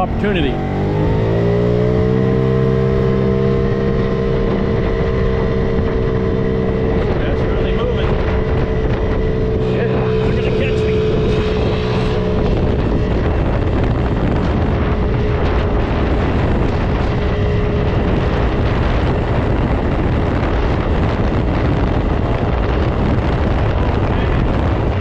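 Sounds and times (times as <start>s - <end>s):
small scooter engine droning: 0.0s - 25.0s
wind rushing over microphone: 0.0s - 25.0s.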